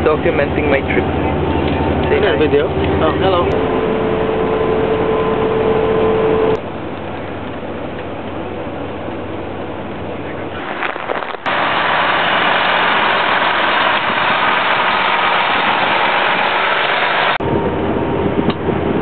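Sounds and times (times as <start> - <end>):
bus cabin drone: 0.0 - 19.0
loud bus engine din: 0.0 - 19.0.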